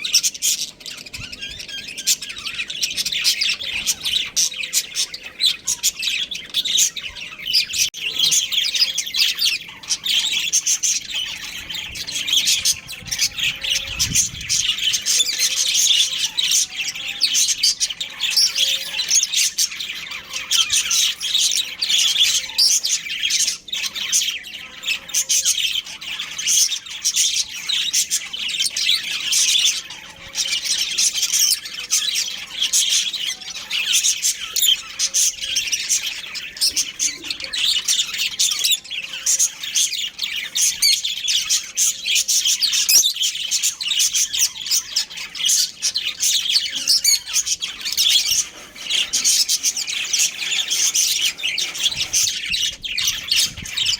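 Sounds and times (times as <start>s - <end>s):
bird squawk: 0.0s - 53.9s
budgerigars chirping: 0.0s - 53.9s.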